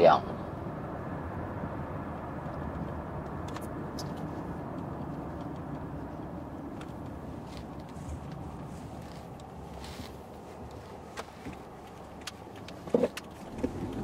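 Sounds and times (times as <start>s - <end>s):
car cabin road and engine noise: 0.0s - 14.0s.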